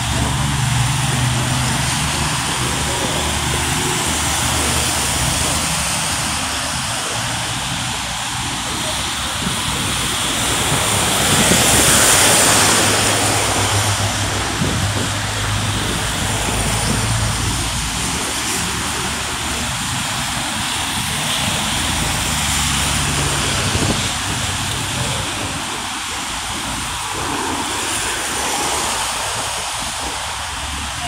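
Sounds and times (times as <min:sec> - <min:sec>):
car and bus engines humming: 0:00.0 - 0:31.0
tyres hissing on wet road: 0:00.0 - 0:31.0.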